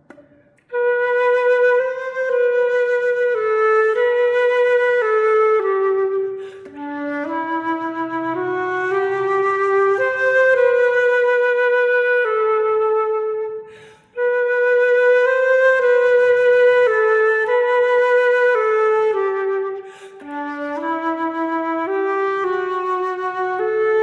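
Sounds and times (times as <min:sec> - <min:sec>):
solo flute waltz melody: 0:00.6 - 0:24.0.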